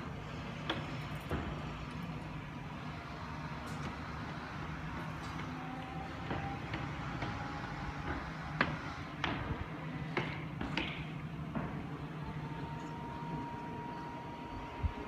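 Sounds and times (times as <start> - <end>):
crane engine running: 0.0 - 15.0.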